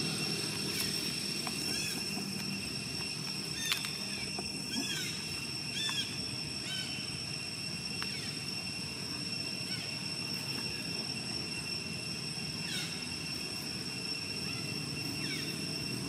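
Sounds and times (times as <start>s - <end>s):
high-pitched insect drone: 0.0s - 16.0s
rising-and-falling call: 0.0s - 16.0s.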